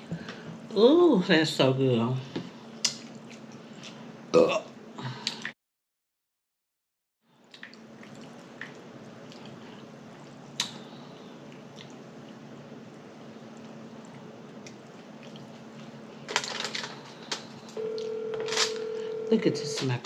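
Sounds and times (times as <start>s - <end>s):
room hum: 0.0s - 5.6s, 7.3s - 20.0s.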